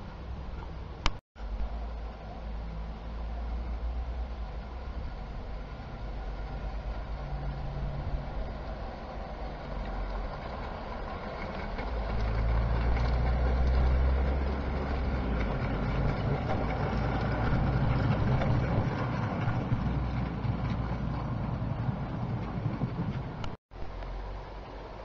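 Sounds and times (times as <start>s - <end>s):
wheels clicking on rails: 0.0s - 25.0s
model train rumbling: 1.7s - 23.6s.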